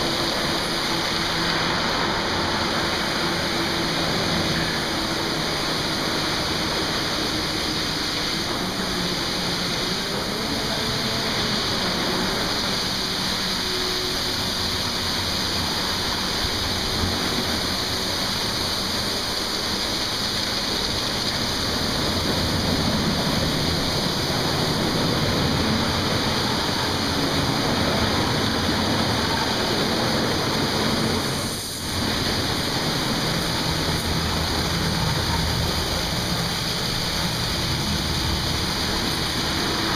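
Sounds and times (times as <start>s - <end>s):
low hum of wash machinery: 0.0s - 39.9s
spray jets hissing: 0.0s - 39.9s.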